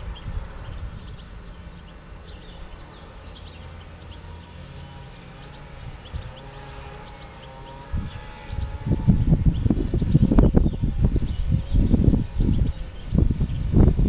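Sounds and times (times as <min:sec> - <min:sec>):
finches twittering: 0:00.0 - 0:14.0.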